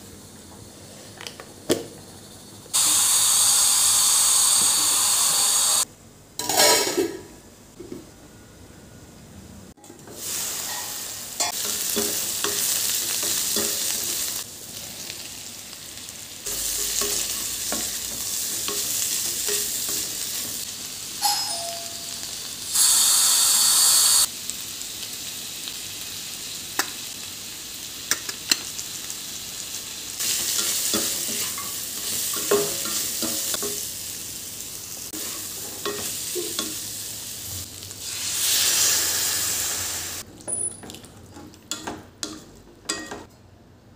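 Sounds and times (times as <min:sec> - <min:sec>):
food sizzling in a pan: 0:02.7 - 0:07.2, 0:09.8 - 0:40.7.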